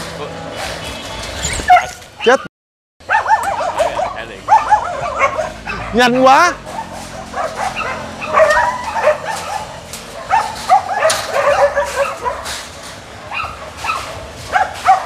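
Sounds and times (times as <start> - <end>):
dogs barking and yelping: 0.5 - 15.0.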